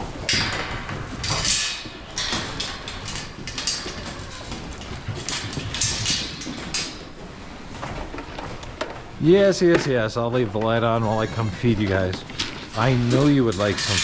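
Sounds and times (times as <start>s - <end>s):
animals eating grain from bowls: 0.0s - 14.0s.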